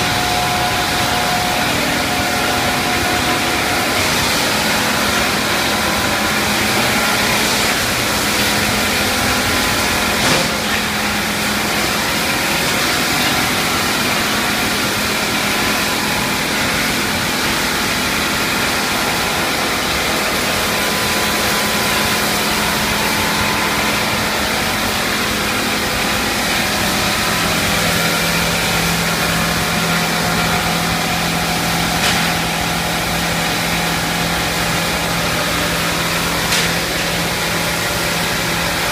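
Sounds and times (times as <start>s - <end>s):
machinery motors and fans droning: 0.0s - 38.9s.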